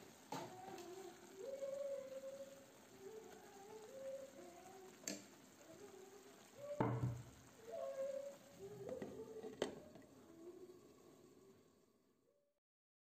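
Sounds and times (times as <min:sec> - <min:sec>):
food sizzling in a frying pan: 0:00.0 - 0:12.2.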